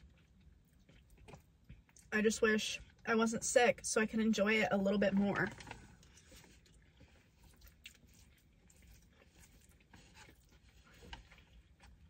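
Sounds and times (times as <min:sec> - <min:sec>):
faint chewing food: 0:00.0 - 0:03.1, 0:05.2 - 0:12.0.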